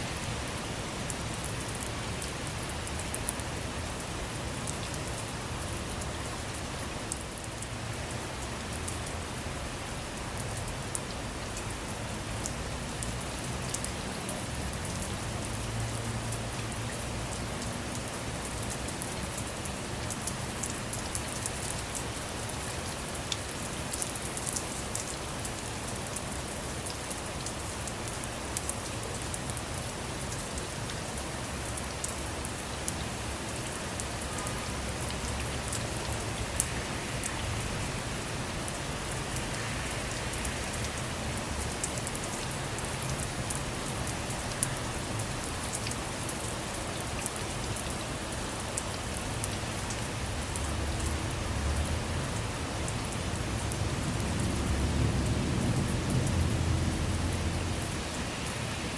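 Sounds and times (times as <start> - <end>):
rain on a car: 0.0 - 58.9.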